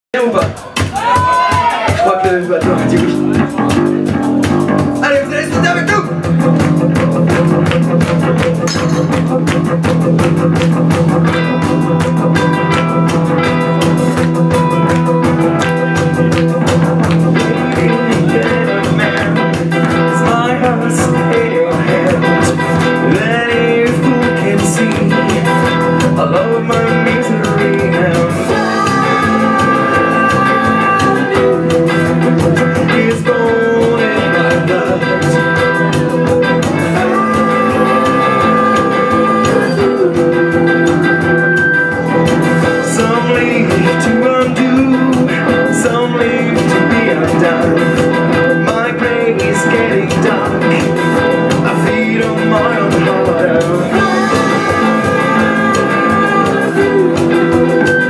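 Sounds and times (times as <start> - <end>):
drums: 0.1 - 58.0
electric guitars: 0.4 - 58.0
person singing: 10.6 - 58.0.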